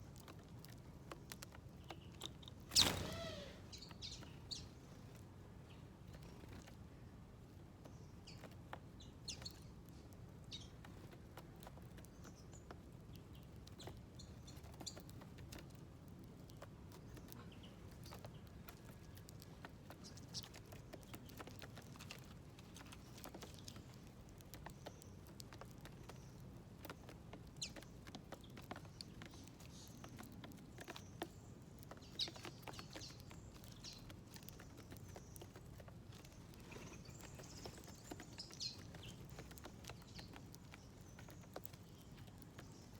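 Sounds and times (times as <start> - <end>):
birds pecking on a feeder: 0.0 - 42.9.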